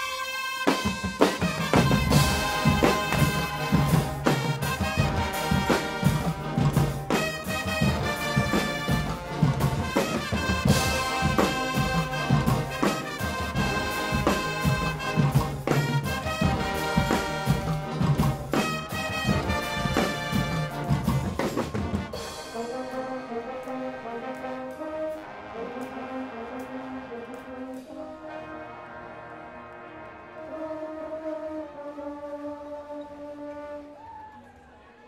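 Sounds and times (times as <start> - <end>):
drum kit with cymbals: 0.0 - 28.2
brass band playing: 0.0 - 34.1.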